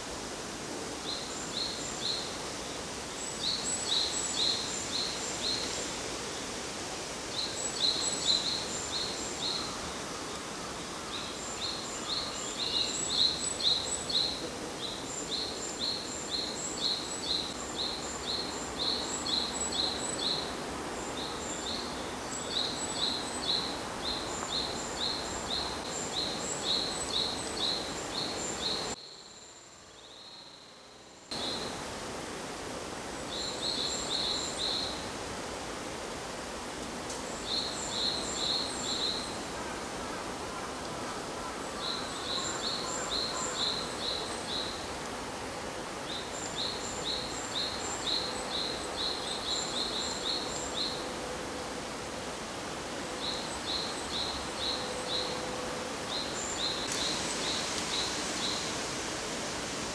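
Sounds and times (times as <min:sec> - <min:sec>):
steady outdoor background noise: 0:00.0 - 0:59.9.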